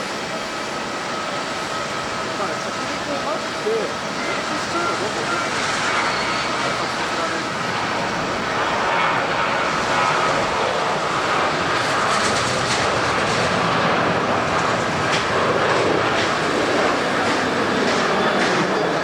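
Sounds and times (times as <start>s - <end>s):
faint engine whine: 0.0s - 19.0s
jet engines rushing: 0.0s - 19.0s.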